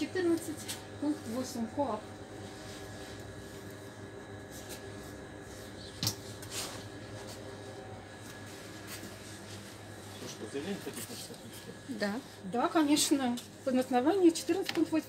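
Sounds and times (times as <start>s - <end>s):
shop interior hum: 0.0s - 15.0s.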